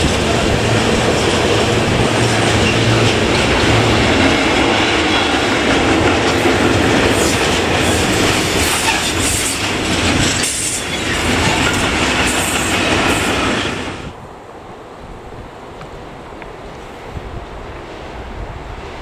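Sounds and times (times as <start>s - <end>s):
freight train wagons rumbling: 0.0s - 19.0s.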